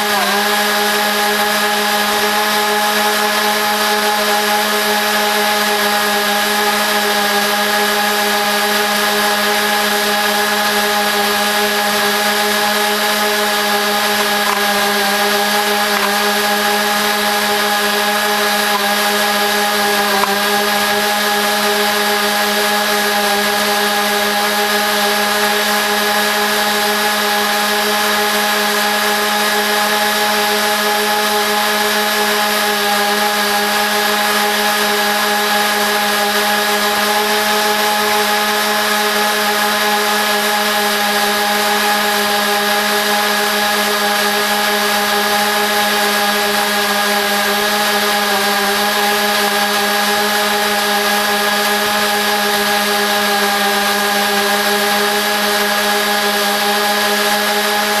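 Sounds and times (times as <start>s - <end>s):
lawn mower engine drone: 0.0s - 58.0s.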